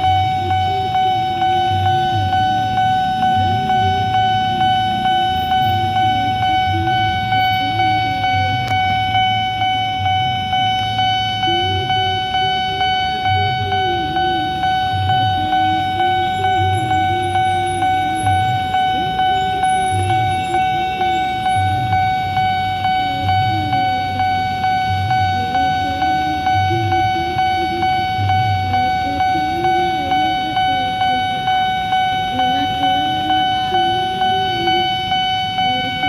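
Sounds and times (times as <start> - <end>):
level crossing warning bell: 0.0 - 36.0.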